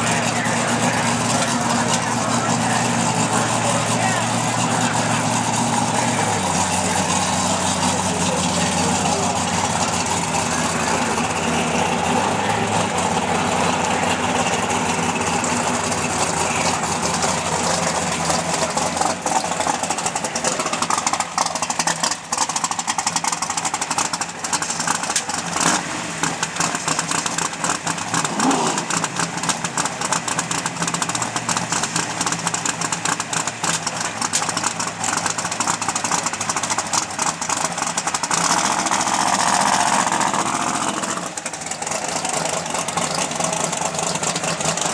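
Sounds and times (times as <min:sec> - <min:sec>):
race car engine idling: 0:00.0 - 0:44.9.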